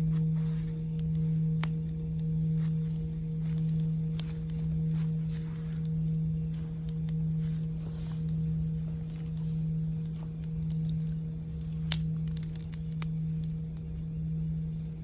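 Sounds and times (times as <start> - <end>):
campfire crackling: 0.0 - 15.0
singing bowl ringing: 0.0 - 15.0.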